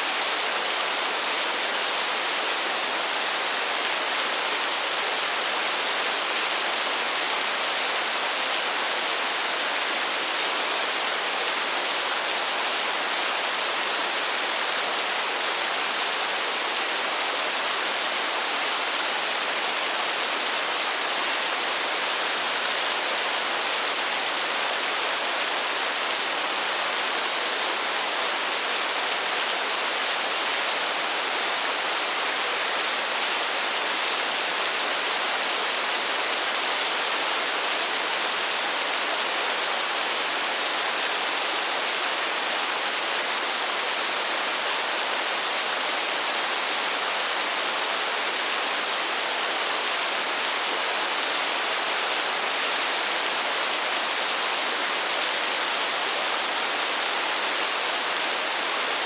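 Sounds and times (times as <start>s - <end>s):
rain falling in a forest: 0.0s - 59.0s.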